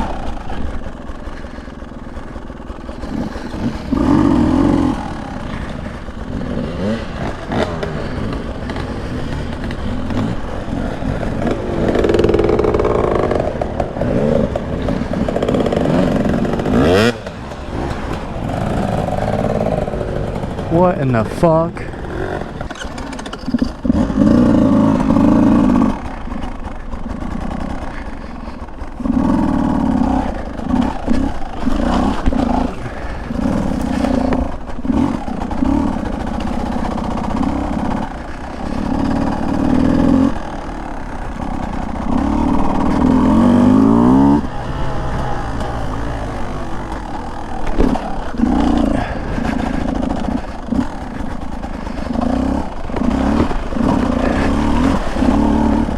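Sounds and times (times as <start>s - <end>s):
two-stroke dirt bike revving: 0.0s - 55.9s.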